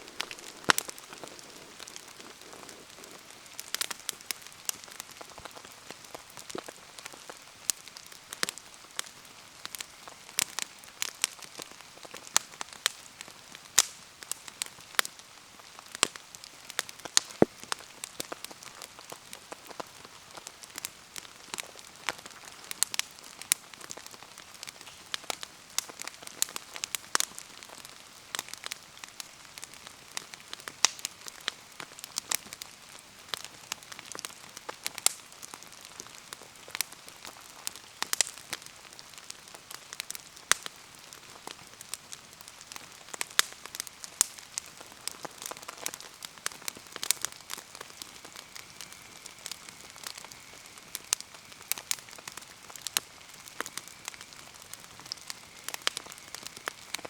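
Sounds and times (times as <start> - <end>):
bonfire crackling and popping: 0.0 - 57.0
rain falling: 0.0 - 57.0.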